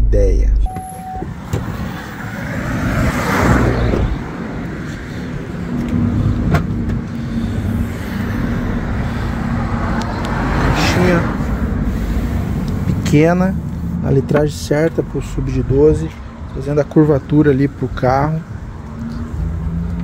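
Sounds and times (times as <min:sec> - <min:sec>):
road traffic rumble: 0:00.7 - 0:20.0
vehicle passing: 0:01.2 - 0:20.0.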